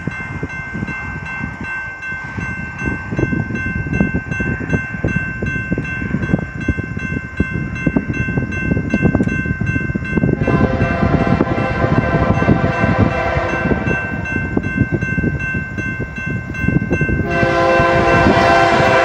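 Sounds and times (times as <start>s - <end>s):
crossing warning bell ringing: 0.0s - 19.0s
freight train rumbling: 0.0s - 19.0s.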